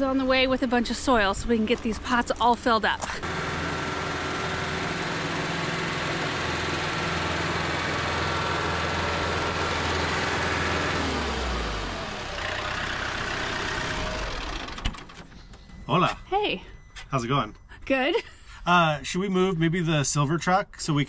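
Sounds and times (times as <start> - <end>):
tractor diesel engine: 0.0 - 18.0.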